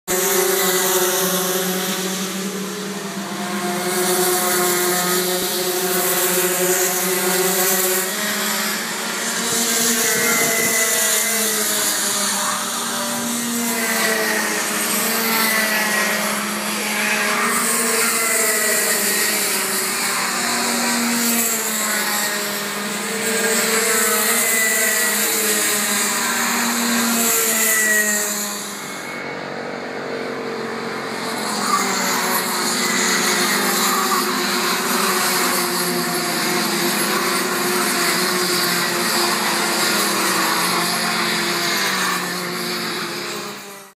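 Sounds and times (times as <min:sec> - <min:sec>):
racing kart engines: 0:00.0 - 0:43.9.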